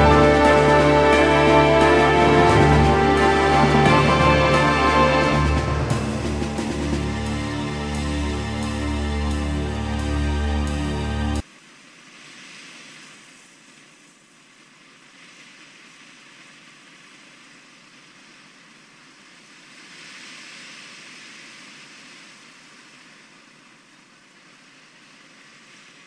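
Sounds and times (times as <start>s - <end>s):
wind gusting through trees: 0.0s - 26.0s.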